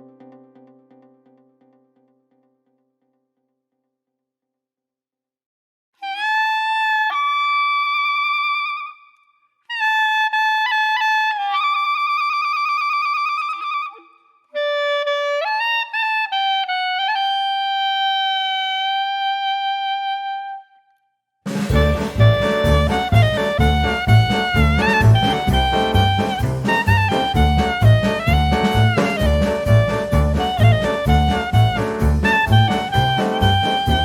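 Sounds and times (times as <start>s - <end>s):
solo wind instrument: 6.0s - 21.0s, 21.6s - 34.0s.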